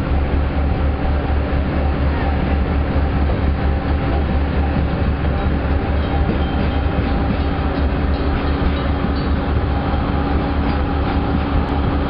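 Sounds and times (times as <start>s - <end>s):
train rumble with rail noise: 0.0s - 12.0s
wind buffeting microphone: 0.1s - 12.0s.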